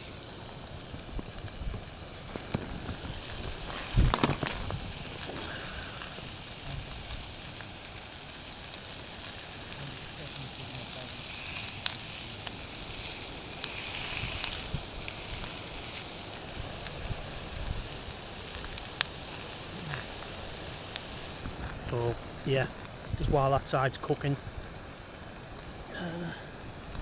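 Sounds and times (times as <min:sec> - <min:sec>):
meat sizzling in a pan: 0:00.0 - 0:27.0
sharp ticks and pops: 0:00.1 - 0:25.9.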